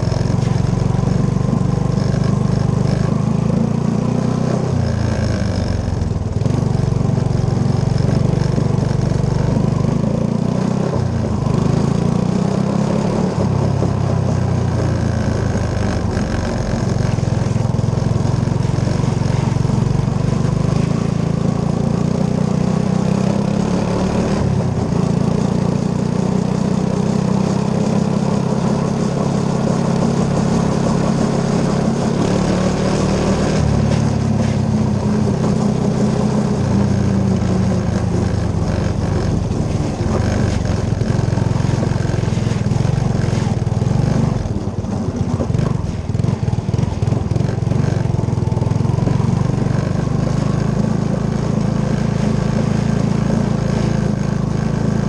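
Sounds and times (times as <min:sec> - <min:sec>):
three-wheeler engine running: 0:00.0 - 0:55.0
tire noise over pavement and gravel: 0:00.0 - 0:55.0.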